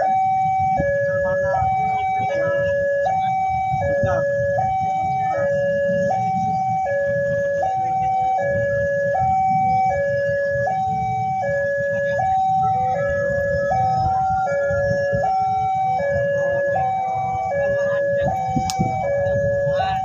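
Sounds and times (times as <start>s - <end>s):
level-crossing two-tone alarm: 0.0s - 20.0s.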